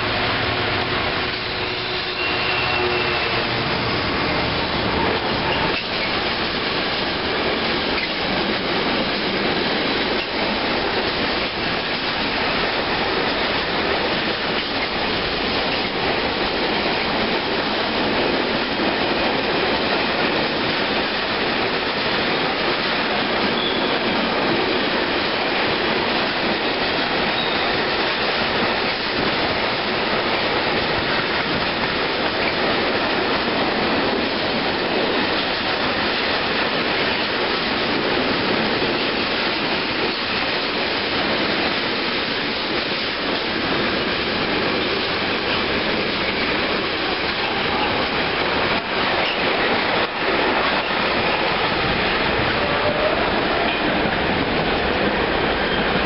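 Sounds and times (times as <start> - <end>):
train wheels running on rails: 0.0 - 56.0.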